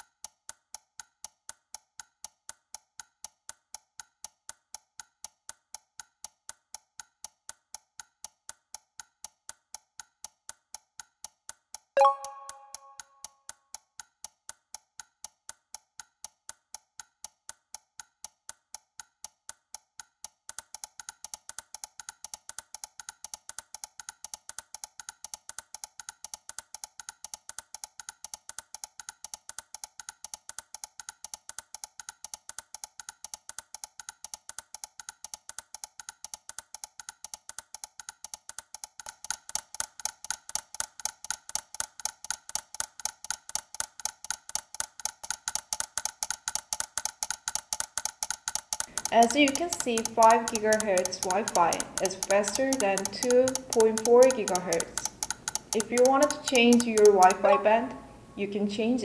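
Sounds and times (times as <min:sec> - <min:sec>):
timer ticking: 0:05.2 - 0:59.0.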